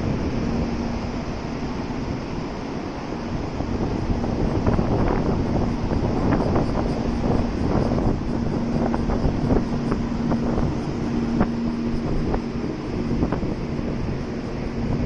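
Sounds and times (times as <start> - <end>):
gusty wind buffeting microphone: 0.0 - 15.0
steady low hum: 0.0 - 15.0.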